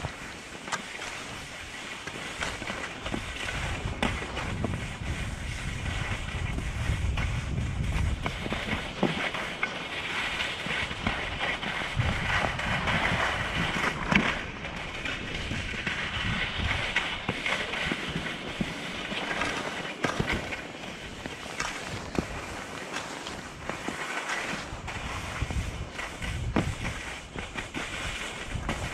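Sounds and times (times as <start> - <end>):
skis scraping on snow: 0.0 - 28.9.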